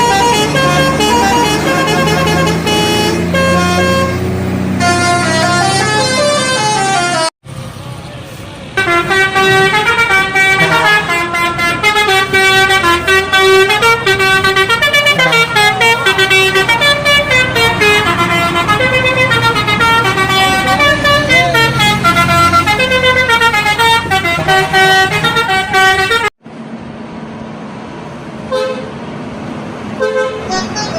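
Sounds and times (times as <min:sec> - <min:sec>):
bus horn playing a melody: 0:00.0 - 0:07.3, 0:08.8 - 0:26.4, 0:28.5 - 0:29.0, 0:30.0 - 0:30.9.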